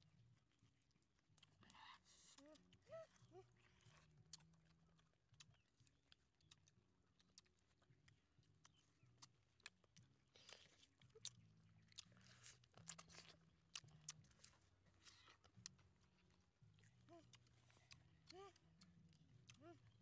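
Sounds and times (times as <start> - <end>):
people chewing: 0.0 - 20.0.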